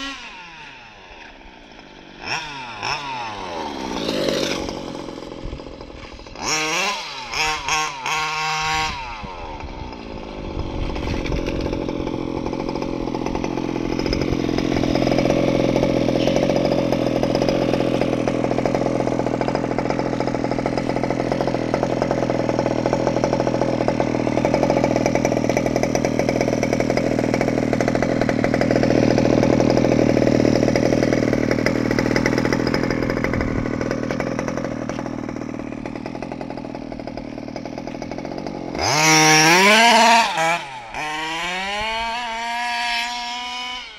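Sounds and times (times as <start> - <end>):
small two-stroke engine idling: 0.0 - 43.9.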